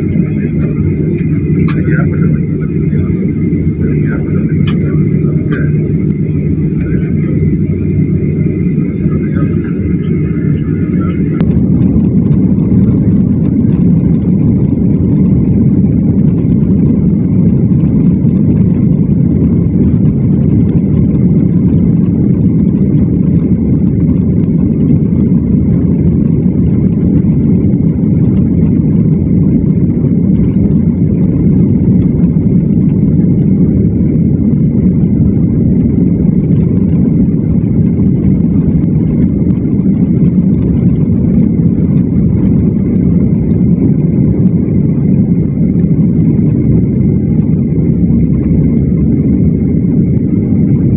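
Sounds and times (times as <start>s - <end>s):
faint steady whine: 0.0s - 50.9s
jet engines rumbling in cabin: 0.0s - 50.9s.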